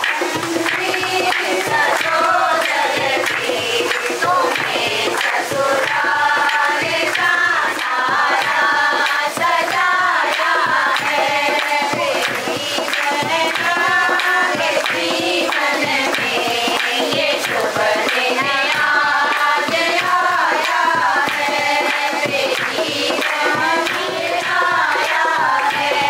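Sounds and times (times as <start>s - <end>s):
song with vocals and percussion: 0.0s - 26.0s.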